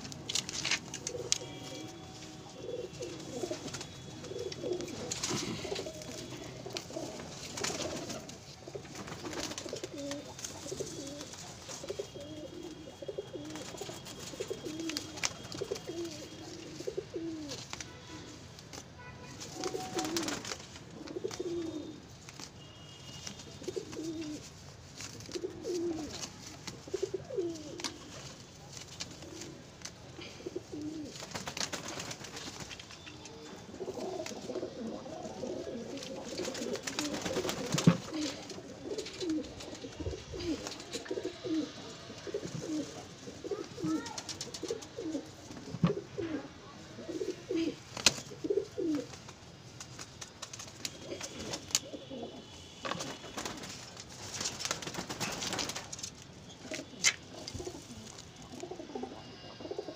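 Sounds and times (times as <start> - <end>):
rustle or scuffle: 0.0 - 30.0, 33.7 - 41.6, 42.3 - 46.3, 47.5 - 58.8
pigeons cooing: 0.8 - 17.7, 19.5 - 22.1, 23.6 - 24.5, 25.2 - 26.2, 26.8 - 28.1, 29.1 - 32.4, 33.3 - 49.2, 50.9 - 53.5, 56.5 - 59.9.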